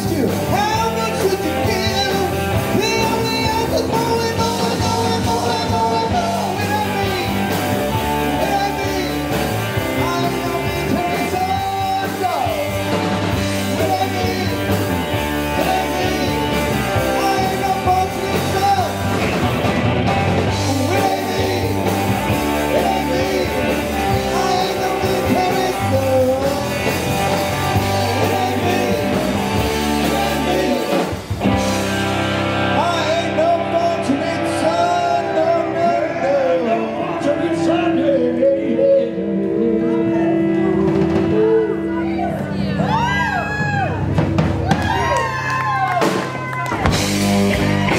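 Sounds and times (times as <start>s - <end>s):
person singing: 0.0s - 12.8s, 13.4s - 19.4s, 20.5s - 31.3s, 32.5s - 42.5s
live rock band playing: 0.0s - 47.9s.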